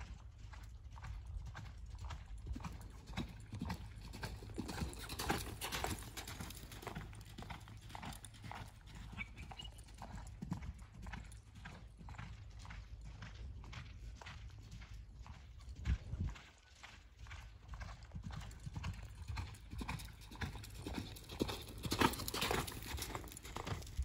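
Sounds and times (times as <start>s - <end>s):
horse hoofbeats on sand: 0.0s - 24.0s.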